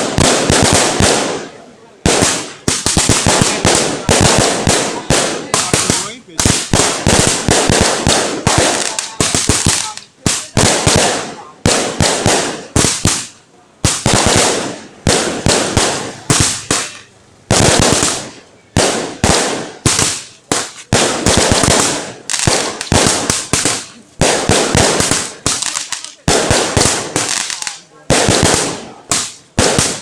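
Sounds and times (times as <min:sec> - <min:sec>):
fireworks banging: 0:00.0 - 0:30.0.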